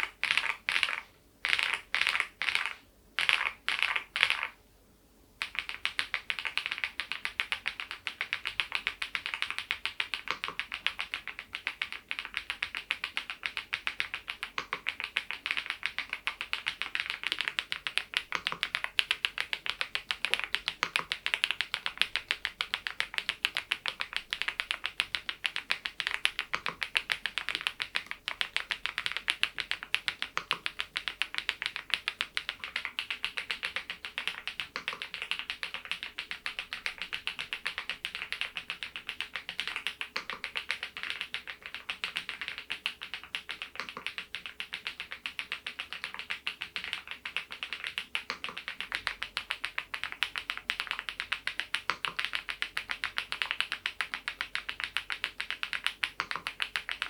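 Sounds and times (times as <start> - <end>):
mechanical keyboard typing: 0.0 - 4.6, 5.4 - 57.0.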